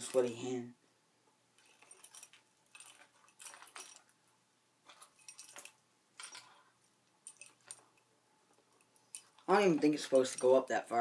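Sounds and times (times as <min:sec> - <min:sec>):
fishing tackle jingling and clinking: 0:01.6 - 0:04.3, 0:04.9 - 0:11.0.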